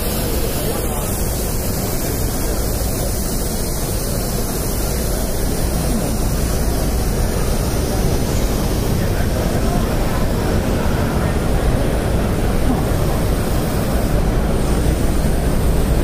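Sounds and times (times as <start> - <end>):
busy exhibition hall roar: 0.0 - 16.0.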